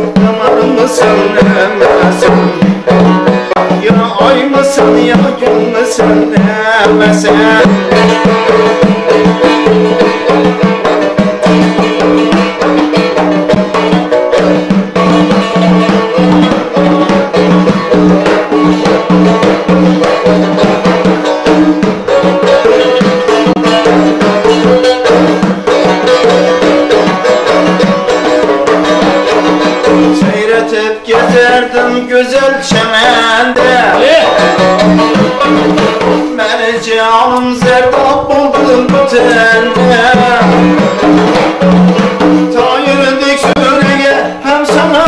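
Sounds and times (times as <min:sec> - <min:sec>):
lute strummed rapidly: 0:00.0 - 0:45.0.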